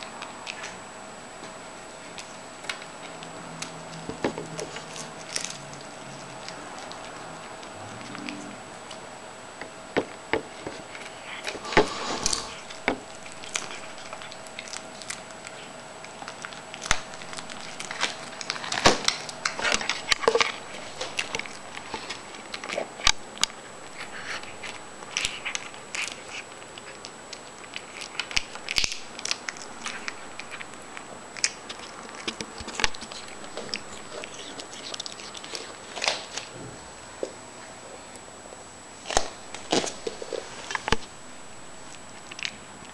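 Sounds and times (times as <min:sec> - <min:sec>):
cats crunching dried treats: 0:00.0 - 0:36.6, 0:39.0 - 0:41.1, 0:41.8 - 0:42.9.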